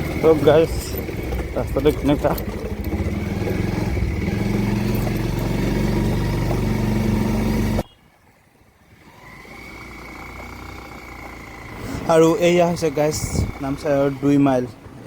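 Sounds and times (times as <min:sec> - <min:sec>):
motorcycle engine running: 0:00.0 - 0:08.0, 0:08.8 - 0:14.7.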